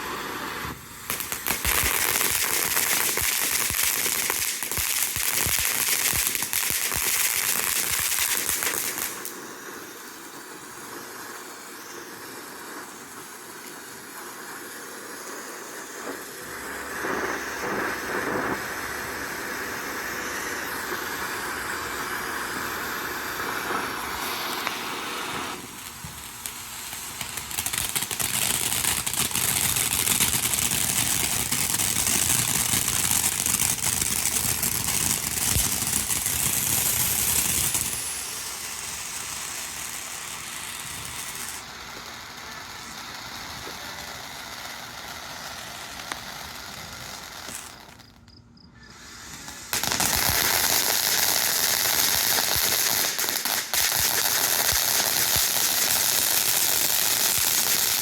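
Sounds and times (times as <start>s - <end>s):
firework fountain hissing and crackling: 0.0s - 58.0s.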